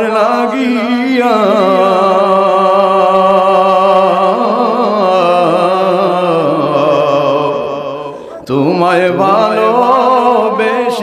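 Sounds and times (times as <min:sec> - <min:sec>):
man singing a long held note: 0:00.0 - 0:11.0.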